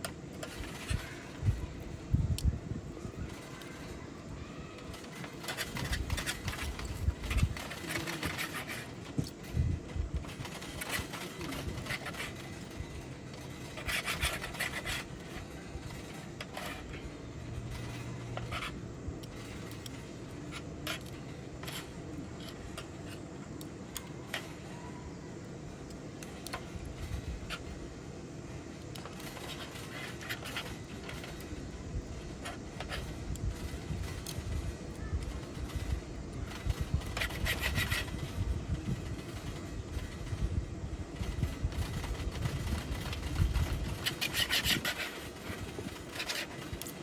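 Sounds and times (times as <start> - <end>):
scraping and rubbing: 3.0 - 23.3, 28.9 - 47.0.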